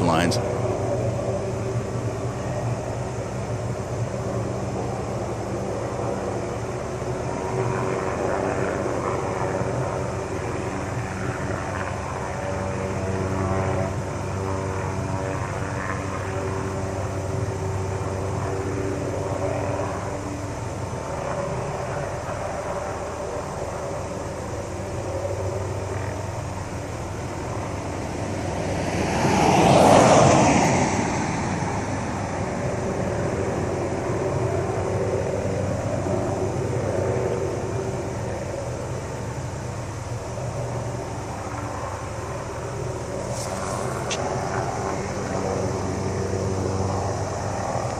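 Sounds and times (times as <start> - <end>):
distant helicopter droning: 0.0 - 47.9
rush of noise: 0.0 - 47.9.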